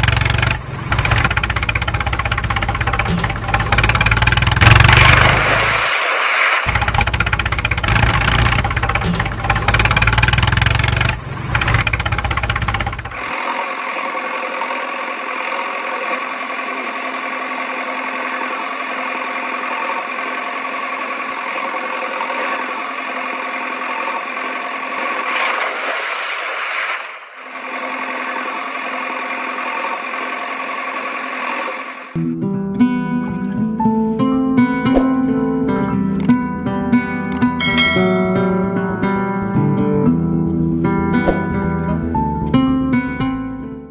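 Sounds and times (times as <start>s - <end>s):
engine running: 0.0s - 34.0s, 34.6s - 43.9s.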